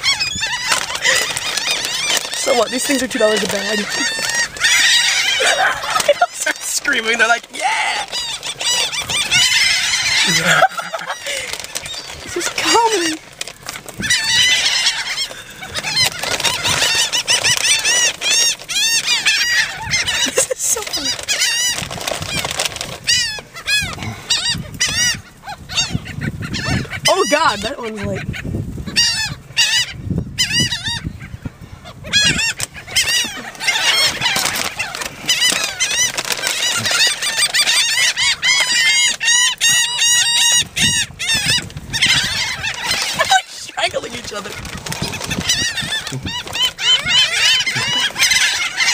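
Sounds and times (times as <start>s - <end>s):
seagulls screaming: 0.0s - 48.9s.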